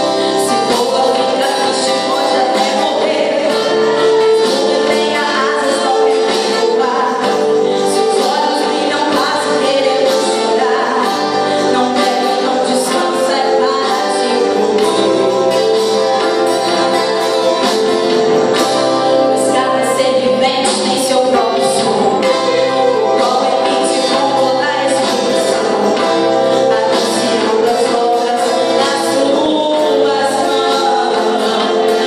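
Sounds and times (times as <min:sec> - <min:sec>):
acoustic guitar: 0:00.0 - 0:32.0
keyboard: 0:00.0 - 0:32.0
woman singing into a microphone: 0:00.0 - 0:32.0.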